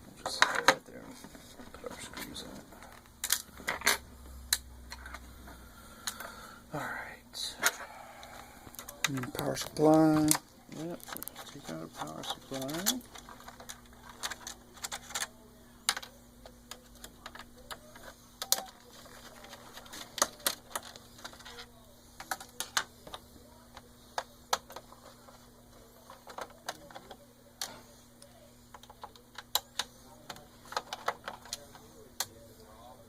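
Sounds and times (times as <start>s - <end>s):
plastic and metal parts handled: 0.2s - 4.0s, 7.6s - 27.9s, 28.7s - 32.3s.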